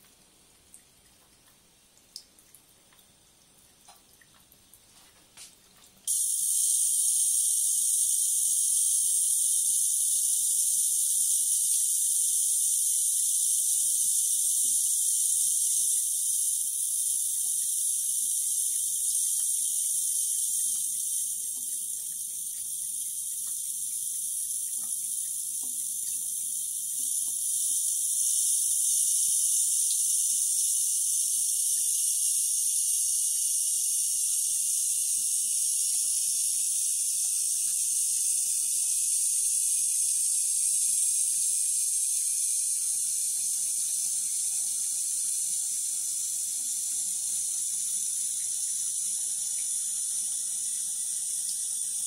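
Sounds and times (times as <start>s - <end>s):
tap water running into sink: 0.0s - 52.0s.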